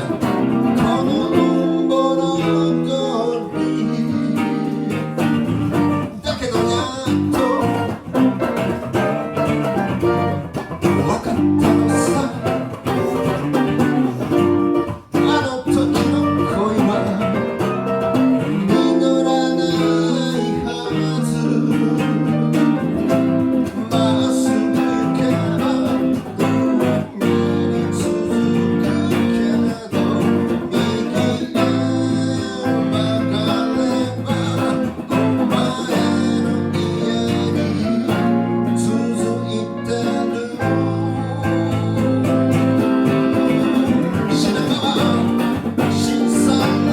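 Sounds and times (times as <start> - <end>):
acoustic guitar plucked and strummed: 0.0 - 46.9
live band music: 0.0 - 46.9.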